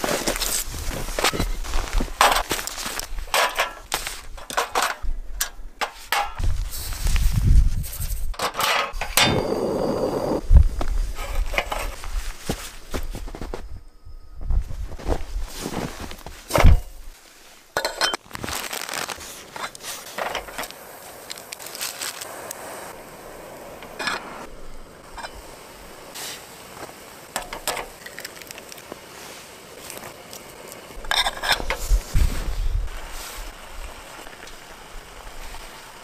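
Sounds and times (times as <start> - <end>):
gas stove hiss: 0.0 - 13.7, 19.1 - 36.0.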